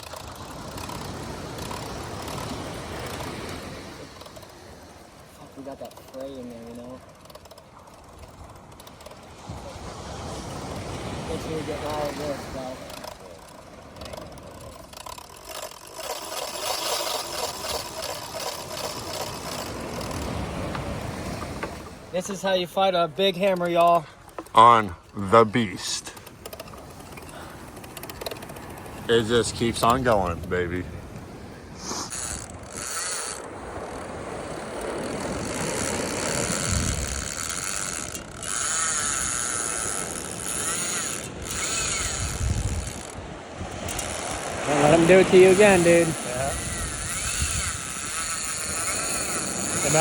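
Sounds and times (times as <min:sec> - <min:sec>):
fishing reel clicking rapidly: 0:00.0 - 0:09.4, 0:11.4 - 0:21.4, 0:25.8 - 0:30.8, 0:31.8 - 0:50.0.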